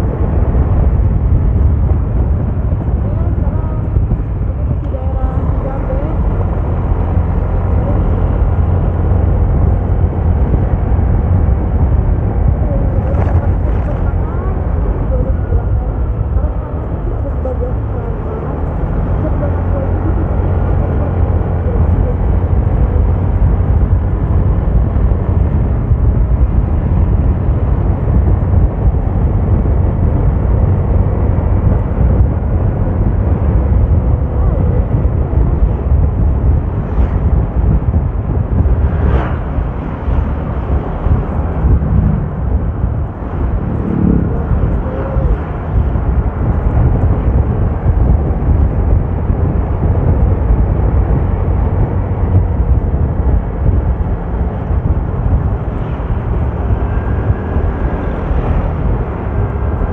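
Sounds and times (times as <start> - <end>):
vehicle road rumble: 0.0 - 59.9.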